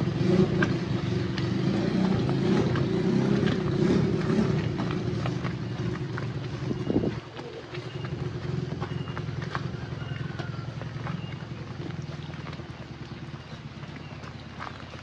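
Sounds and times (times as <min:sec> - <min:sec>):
footsteps on wet gravel: 0:00.0 - 0:15.0
motorcycle engine running: 0:00.0 - 0:15.0.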